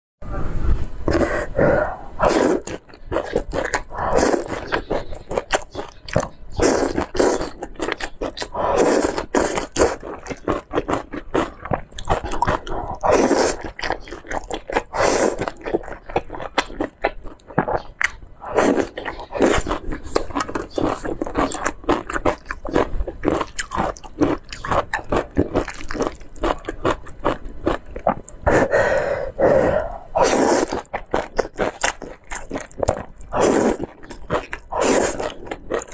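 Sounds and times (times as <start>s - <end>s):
slurping and chewing noodles: 1.0s - 35.9s.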